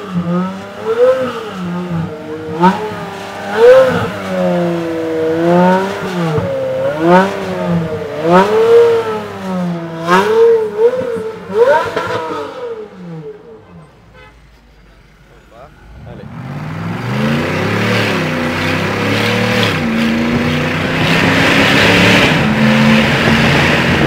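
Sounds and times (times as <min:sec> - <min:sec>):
car engine revving: 0:00.0 - 0:13.6, 0:15.2 - 0:24.0.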